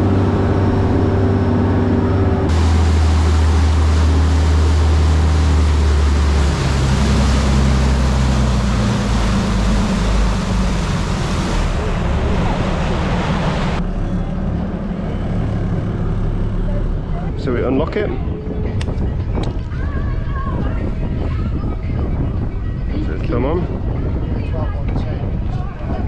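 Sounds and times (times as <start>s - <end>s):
boat engine droning: 0.0s - 26.0s
wake and wind rushing: 0.0s - 26.0s.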